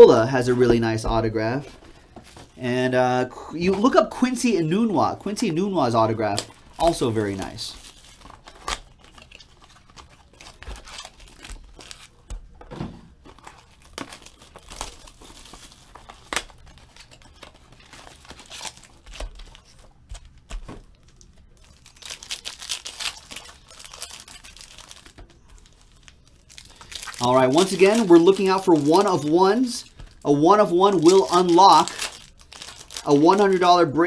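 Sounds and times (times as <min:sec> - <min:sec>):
foil wrappers tearing and crinkling: 0:04.8 - 0:12.4, 0:13.2 - 0:33.9.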